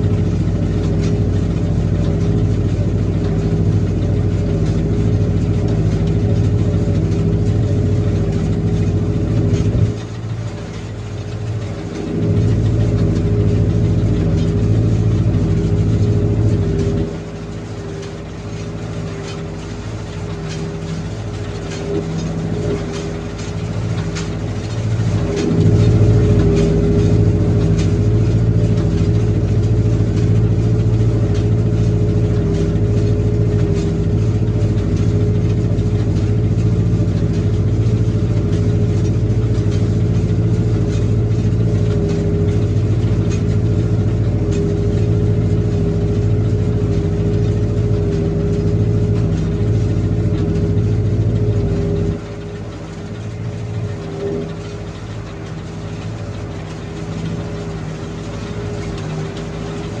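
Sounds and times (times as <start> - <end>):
tractor engine running: 0.0 - 60.0.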